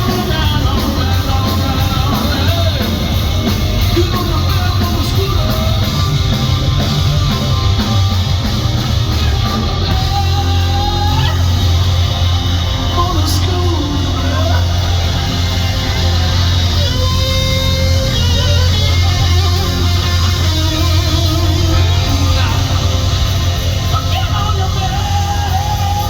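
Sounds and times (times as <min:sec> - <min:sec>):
live rock band playing hard rock: 0:00.0 - 0:26.0.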